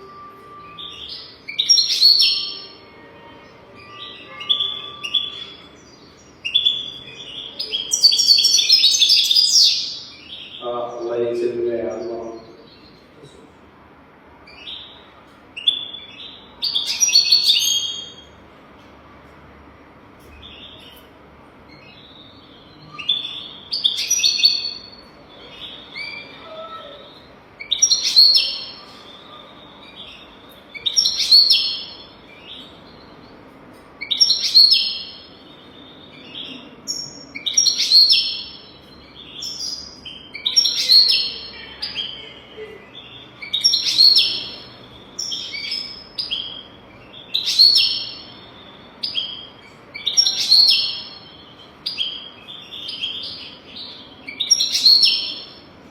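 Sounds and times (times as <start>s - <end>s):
finch singing: 0.0s - 13.2s, 14.5s - 18.3s, 20.2s - 55.8s.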